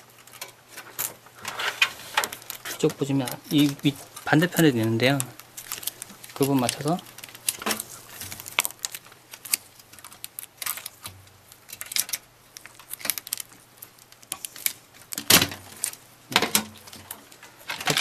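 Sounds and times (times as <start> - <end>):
plastic clatter: 0.3 - 13.5, 14.2 - 18.0
computer case bezel clicks and rattles: 1.8 - 18.0.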